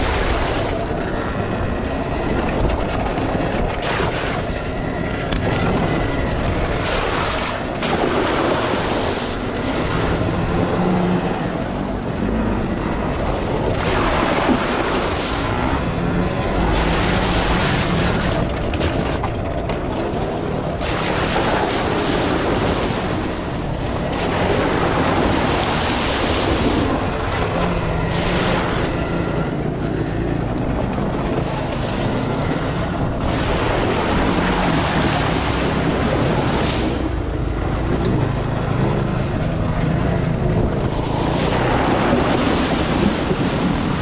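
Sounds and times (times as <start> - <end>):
tyres rumbling over dirt: 0.0 - 44.0
wind on microphone: 0.0 - 44.0.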